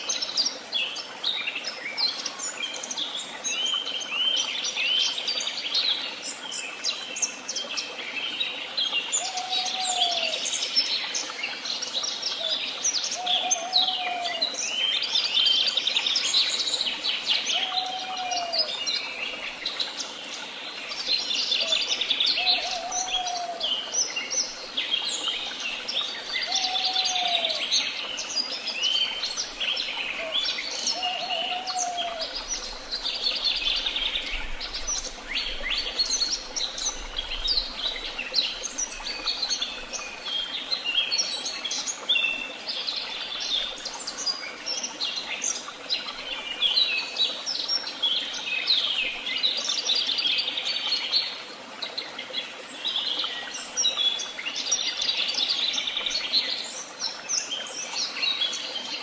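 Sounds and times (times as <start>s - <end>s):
songbirds chorus: 0.0s - 59.0s.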